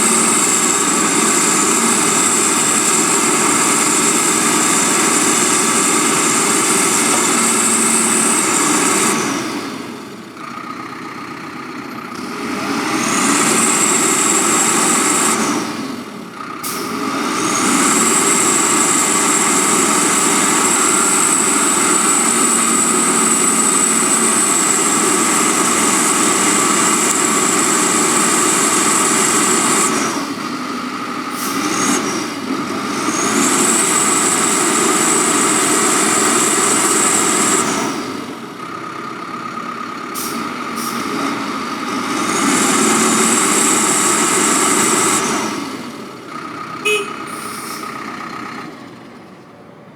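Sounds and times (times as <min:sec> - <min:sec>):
backhoe loader running: 0:00.0 - 0:49.9.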